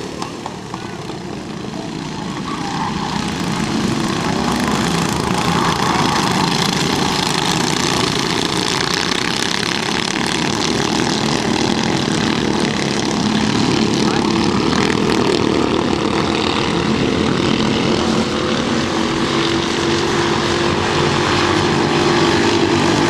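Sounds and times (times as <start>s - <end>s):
racing kart engines droning: 0.0s - 23.0s.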